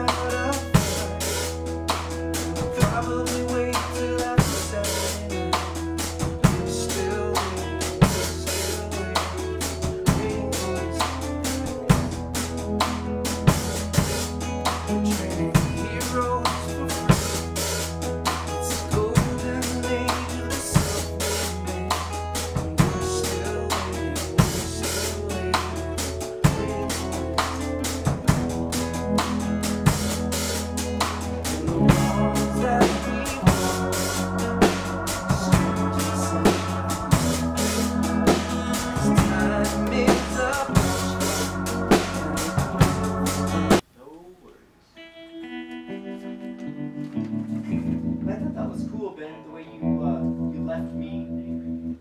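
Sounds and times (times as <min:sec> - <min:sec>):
drum kit beat: 0:00.0 - 0:43.9
band playing: 0:00.0 - 0:44.0, 0:44.9 - 0:52.0.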